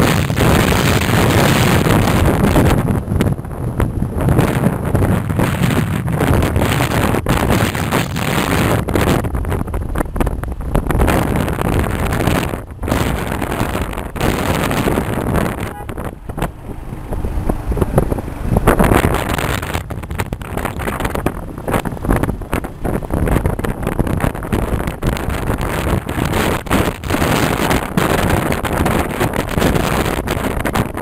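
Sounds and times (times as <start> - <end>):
vehicle road rush: 0.0 - 31.0
wind buffeting microphone: 0.0 - 31.0.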